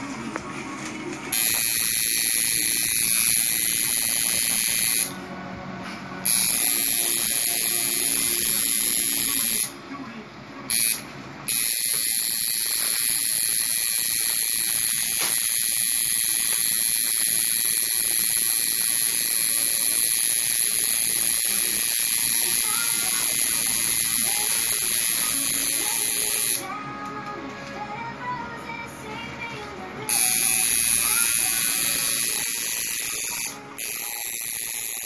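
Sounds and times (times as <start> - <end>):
electric tattoo machine buzzing: 1.3 - 5.2, 6.2 - 9.8, 10.7 - 26.6, 30.1 - 35.0.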